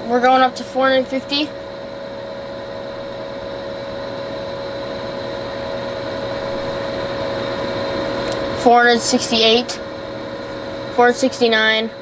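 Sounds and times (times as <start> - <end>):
space heater fan whirring: 0.0 - 12.0.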